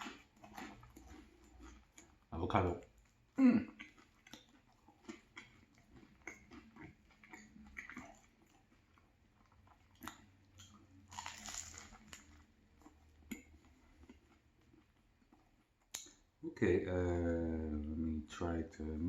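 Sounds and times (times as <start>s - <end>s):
soft crunches of eating: 0.0s - 16.3s.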